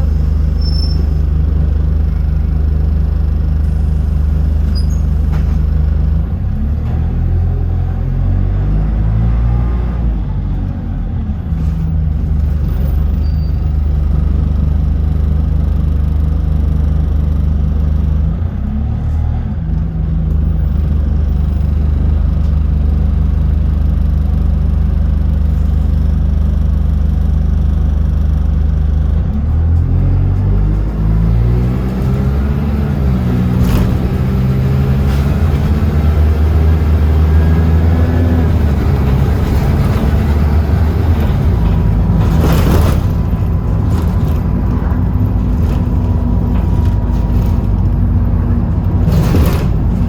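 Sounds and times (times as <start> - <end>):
bus engine droning: 0.0 - 50.0.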